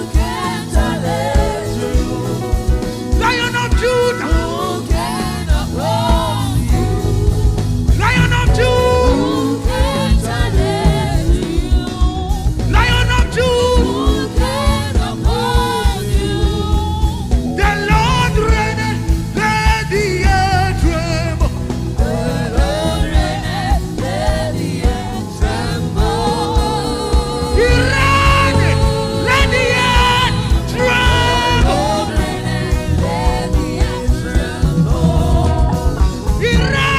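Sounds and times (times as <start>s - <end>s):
band playing: 0.0s - 36.9s
person singing: 0.0s - 36.9s
steady drum beat: 0.0s - 36.9s.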